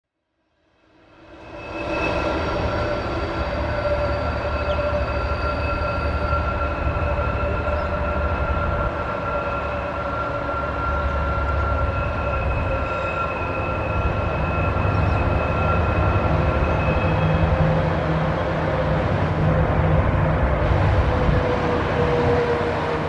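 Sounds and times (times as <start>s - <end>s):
diesel locomotive engine rumble: 0.9s - 23.0s
steady high whine: 1.1s - 22.9s.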